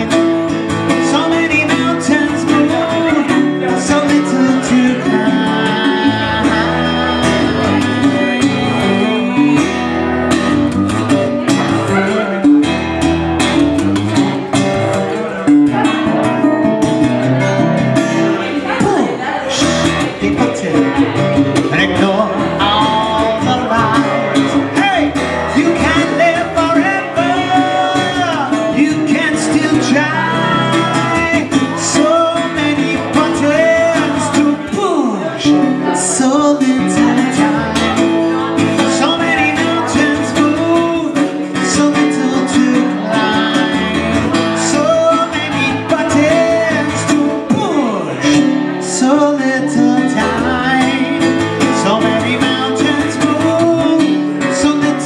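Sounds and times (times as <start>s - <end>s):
man singing: 0.0s - 55.0s
plucked acoustic bass guitar: 0.0s - 55.0s.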